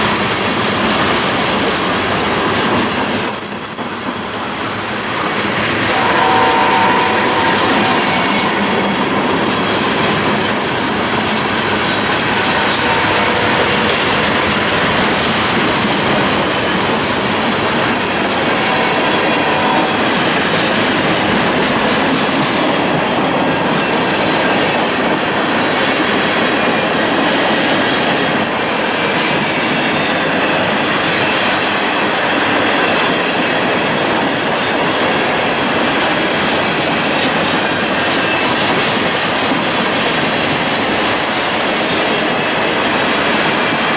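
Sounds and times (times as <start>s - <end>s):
clickety-clack of rails: 0.0s - 43.9s
train wheels rumbling on track: 0.0s - 43.9s.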